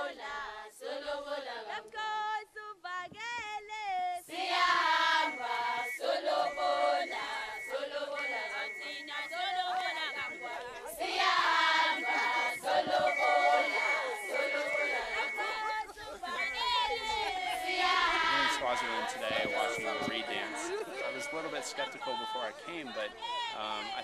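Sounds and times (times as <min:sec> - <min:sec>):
chorus of women singing: 0:00.0 - 0:24.0.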